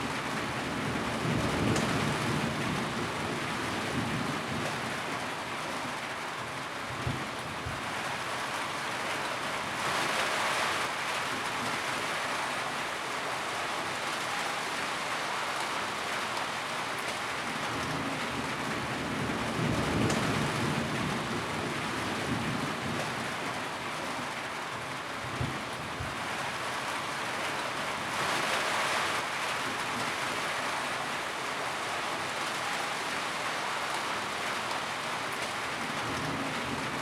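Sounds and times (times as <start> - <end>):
rain drumming on a tin roof: 0.0 - 37.0.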